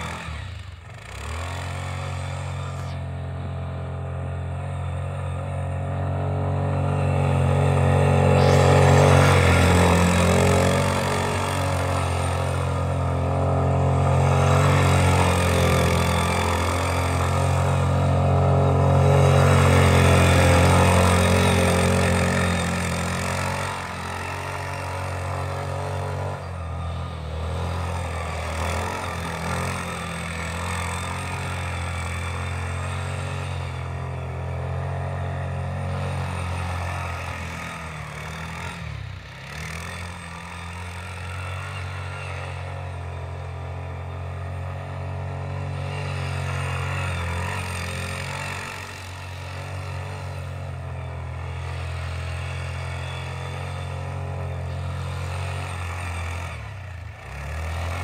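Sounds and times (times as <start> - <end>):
atv engine under load: 0.0 - 58.0.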